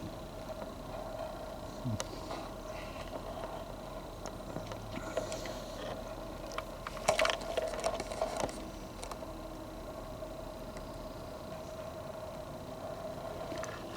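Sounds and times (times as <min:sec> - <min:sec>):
faint steady hum: 0:00.0 - 0:13.9.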